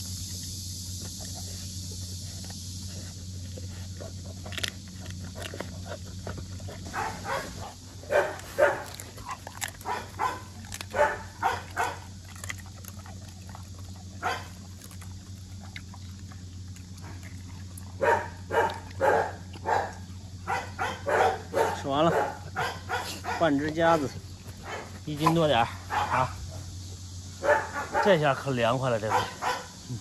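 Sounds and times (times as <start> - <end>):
dog crunching and chewing: 0.0 - 29.8
steady low hum: 0.0 - 30.0.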